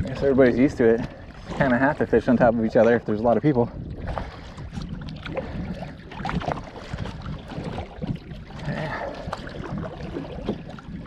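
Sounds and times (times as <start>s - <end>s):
paddle strokes splashing: 0.0s - 11.0s
water washing against hull: 0.0s - 11.0s.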